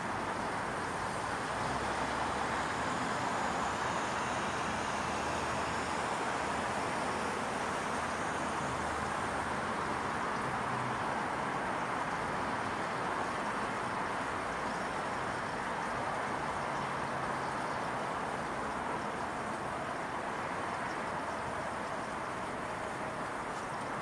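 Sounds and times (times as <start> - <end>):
distant neighbourhood noise: 0.0 - 24.0.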